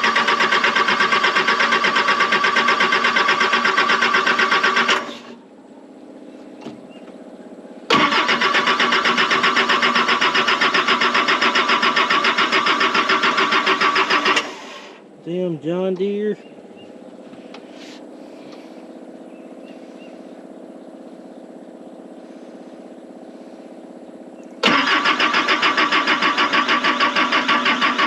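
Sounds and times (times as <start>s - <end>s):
starter cranking diesel engine: 0.0s - 5.4s, 7.9s - 16.3s, 17.1s - 28.0s.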